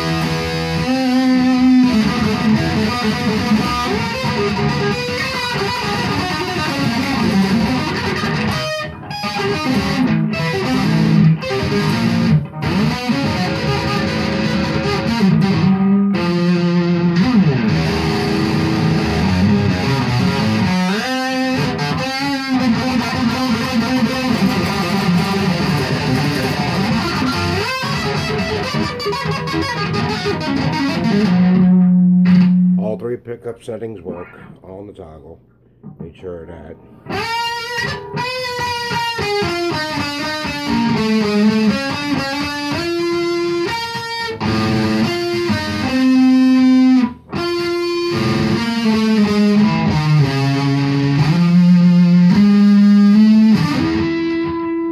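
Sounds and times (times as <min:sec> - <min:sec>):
electric guitar through amplifier: 0:00.0 - 0:34.8, 0:35.4 - 0:54.9.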